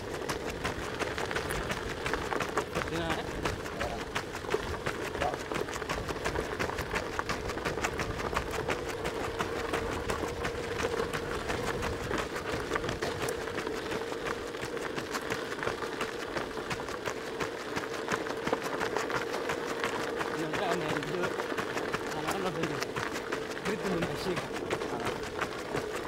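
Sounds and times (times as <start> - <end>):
runners' footsteps: 0.0 - 26.0.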